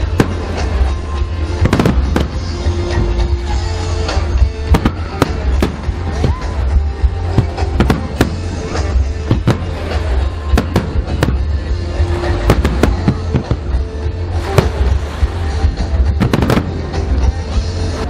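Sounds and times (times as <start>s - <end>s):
deep rumble: 0.0s - 18.0s
fireworks bangs and crackles: 0.0s - 18.0s.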